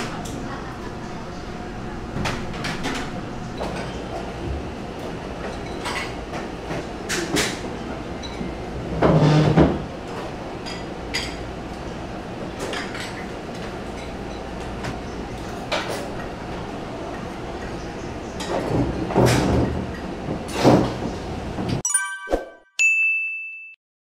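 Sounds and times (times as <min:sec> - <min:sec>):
restaurant hum: 0:00.0 - 0:22.2.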